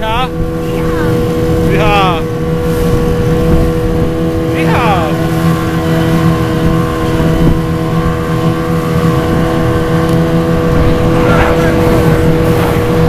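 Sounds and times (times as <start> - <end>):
outboard motor hum: 0.0 - 13.0
wind and water rushing: 0.0 - 13.0.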